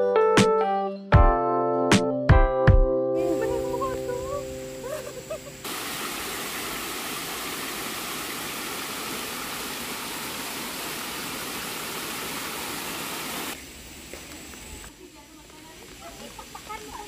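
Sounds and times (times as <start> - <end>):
outdoor ambience: 3.2 - 17.0
water rushing down cascade: 3.2 - 17.0.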